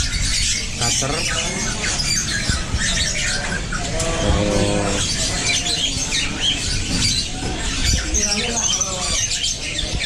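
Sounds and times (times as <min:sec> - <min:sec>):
caged birds chirping and squawking: 0:00.0 - 0:10.0.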